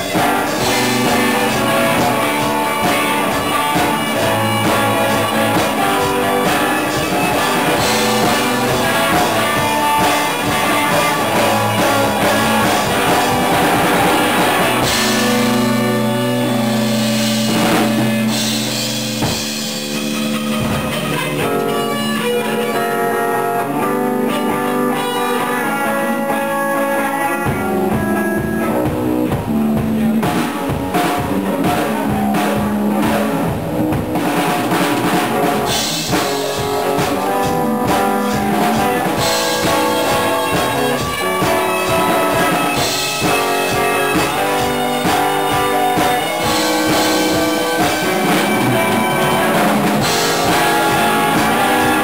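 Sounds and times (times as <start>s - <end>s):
drum kit with cymbals: 0.0s - 52.0s
electric guitars: 0.0s - 52.0s.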